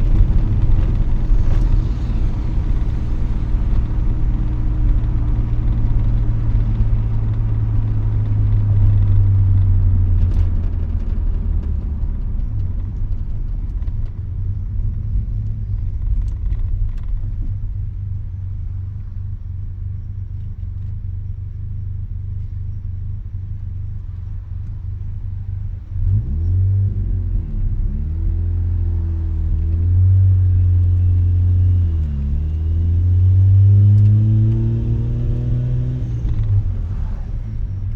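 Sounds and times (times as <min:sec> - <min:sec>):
rotary engine low rumble: 0:00.0 - 0:37.9.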